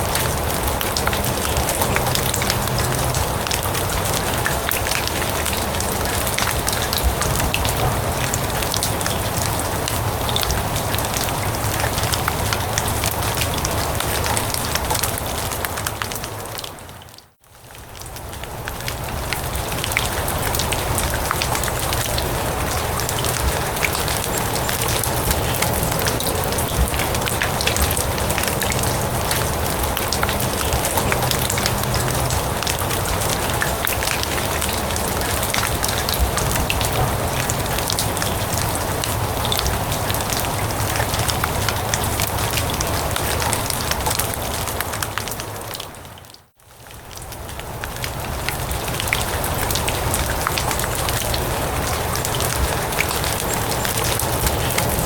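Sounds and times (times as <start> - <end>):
rain on grass and leaves: 0.0 - 55.0.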